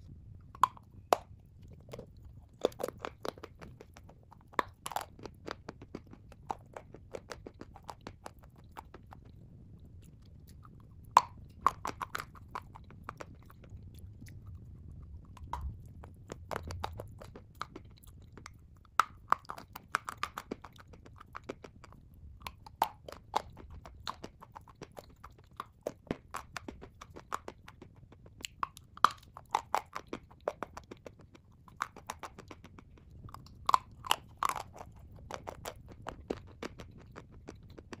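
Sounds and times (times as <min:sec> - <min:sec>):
chalk being chewed crunching: 0:00.5 - 0:38.0.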